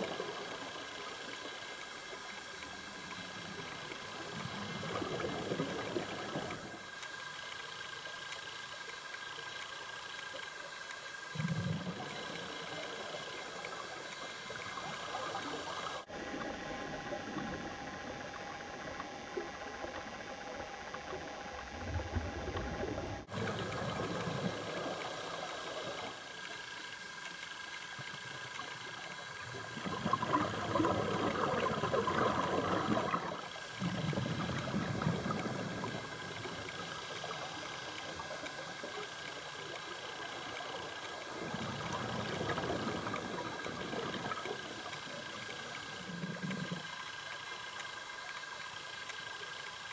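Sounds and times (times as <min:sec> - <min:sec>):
faint ticks: 0:00.0 - 0:16.1, 0:22.5 - 0:49.9
underwater hiss: 0:00.0 - 0:16.1, 0:23.3 - 0:49.9.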